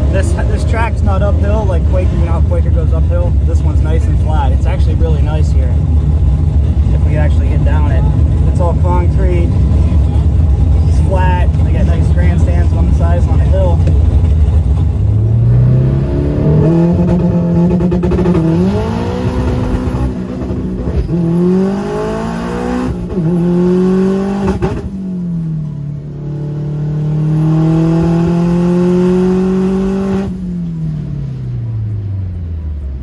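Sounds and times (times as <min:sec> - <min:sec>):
race car engine at full throttle: 0:00.0 - 0:33.0.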